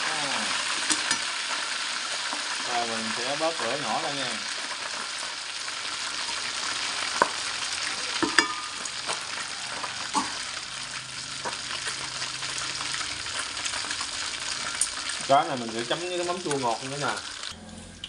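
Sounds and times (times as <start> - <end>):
fish deep-frying in oil: 0.0 - 18.0.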